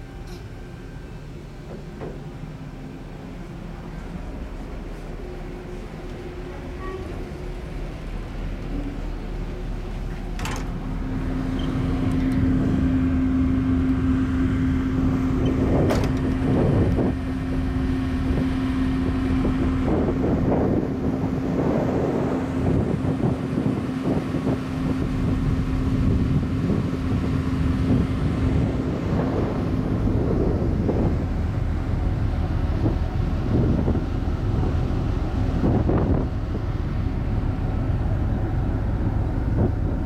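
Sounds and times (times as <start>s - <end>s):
ship machinery drone: 0.0s - 40.0s
wind buffeting microphone: 1.8s - 40.0s.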